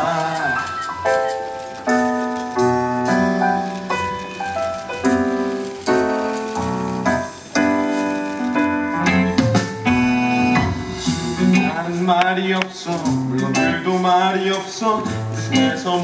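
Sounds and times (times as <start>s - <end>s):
keyboard chords: 0.0s - 14.1s.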